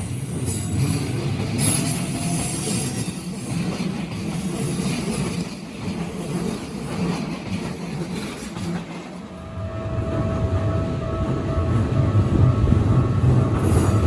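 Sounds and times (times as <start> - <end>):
rumble of train wheels on rail: 0.0 - 14.0.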